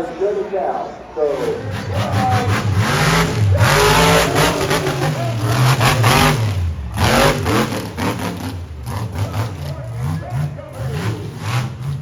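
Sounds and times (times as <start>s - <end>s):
monster truck engine revving: 1.3s - 12.0s.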